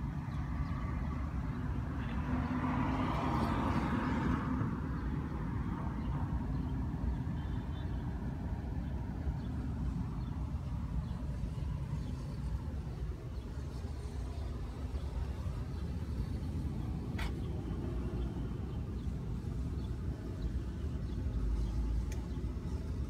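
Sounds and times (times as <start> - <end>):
street traffic rumbling: 0.0 - 23.0.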